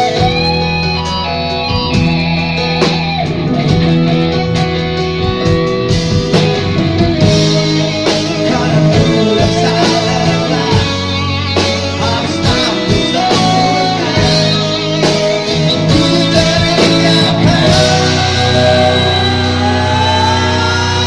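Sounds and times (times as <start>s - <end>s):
rock band with guitar: 0.0s - 21.0s
steady drum beat: 0.0s - 21.0s.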